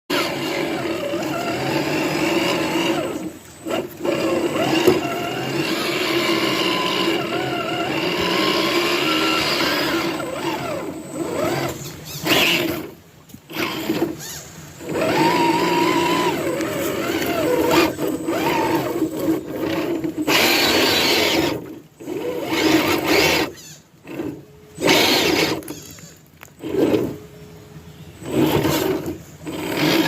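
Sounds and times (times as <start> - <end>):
rc car electric motor whining: 0.1 - 27.2, 28.2 - 30.0.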